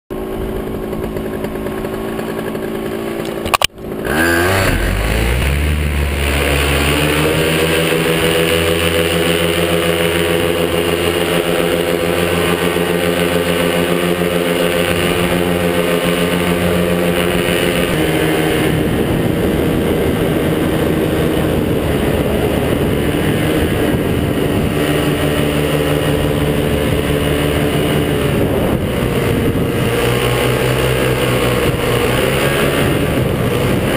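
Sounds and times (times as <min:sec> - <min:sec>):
two-stroke engine revving: 0:00.1 - 0:33.9.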